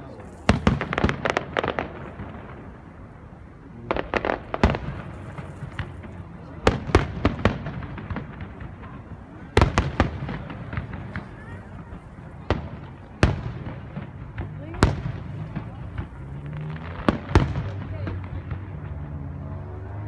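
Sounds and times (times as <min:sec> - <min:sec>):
fireworks bursting: 0:00.0 - 0:19.6.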